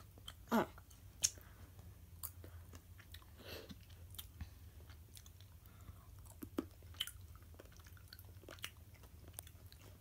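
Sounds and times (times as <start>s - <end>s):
child chewing caramel: 0.0s - 10.0s.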